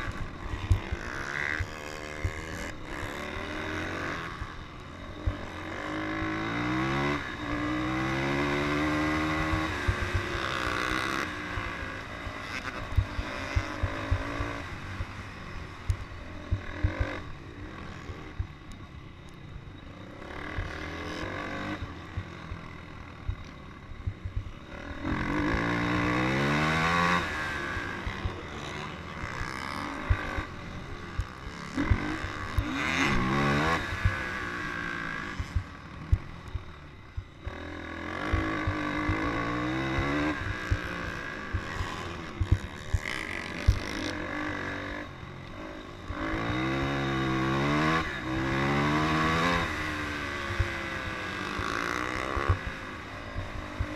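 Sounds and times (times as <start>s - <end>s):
atv engine accelerating: 0.0s - 53.9s.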